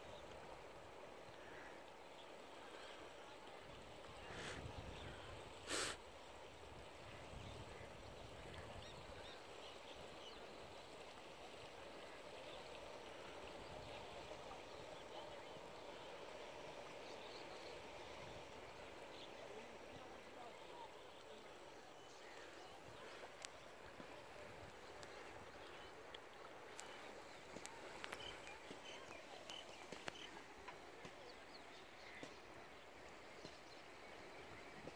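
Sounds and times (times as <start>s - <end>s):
muddy stream rushing: 0.0s - 34.9s.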